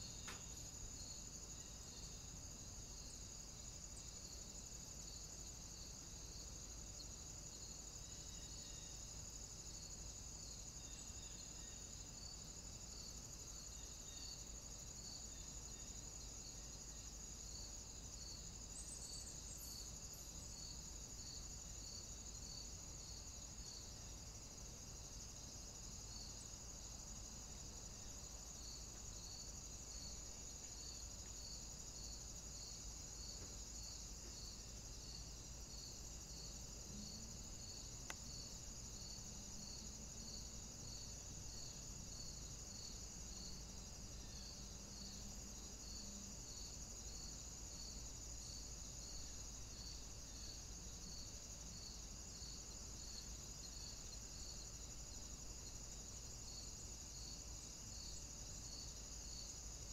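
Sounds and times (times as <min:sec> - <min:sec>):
insect chirps: 0:00.0 - 0:59.9
insects trilling: 0:00.0 - 0:59.9.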